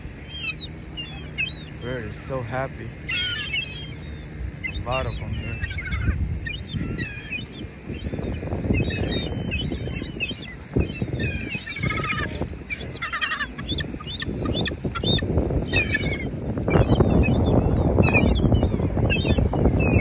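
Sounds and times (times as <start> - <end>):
flock of birds calling: 0.0 - 20.0
low rumble on microphone: 0.0 - 20.0.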